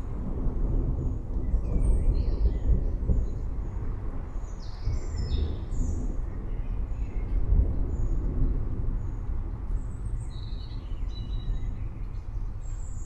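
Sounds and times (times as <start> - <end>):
distant thunder rumble: 0.0 - 13.0.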